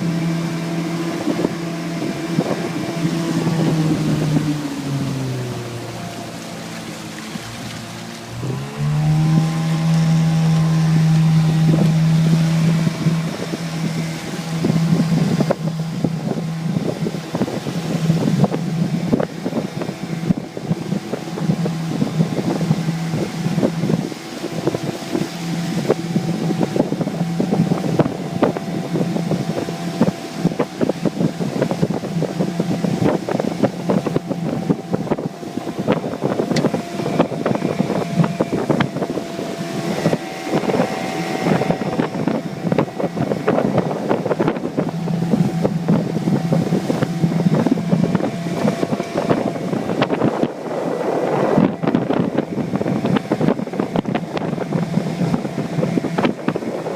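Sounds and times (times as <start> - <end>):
outboard motor running: 0.0 - 56.9
wind buffeting microphone: 0.0 - 56.9.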